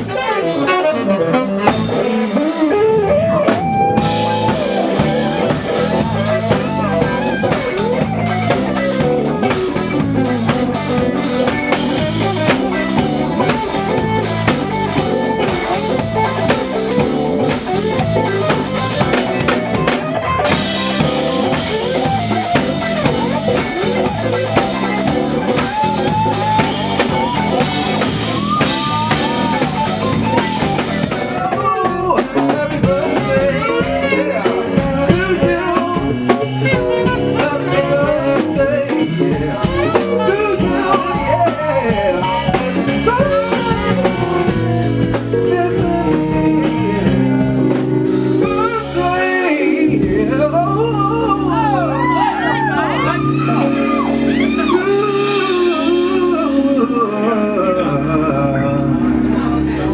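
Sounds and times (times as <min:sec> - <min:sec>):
live funk band playing: 0:00.0 - 0:59.9
person singing: 0:00.0 - 0:59.9.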